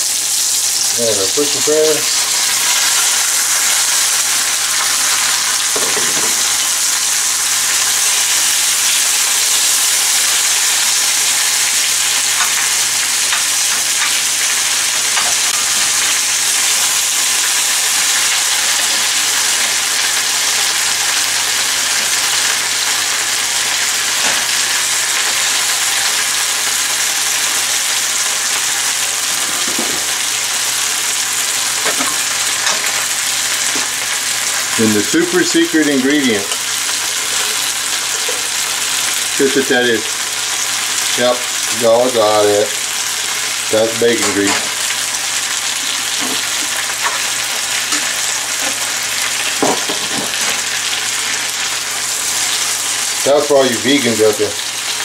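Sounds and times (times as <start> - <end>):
vegetables sizzling in skillet: 0.0 - 55.0.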